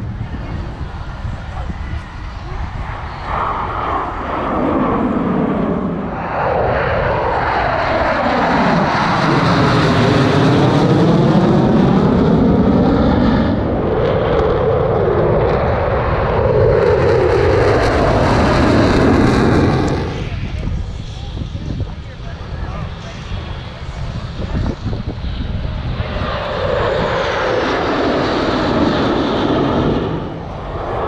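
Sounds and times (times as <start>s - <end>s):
jet fighters roaring past: 0.0s - 31.0s.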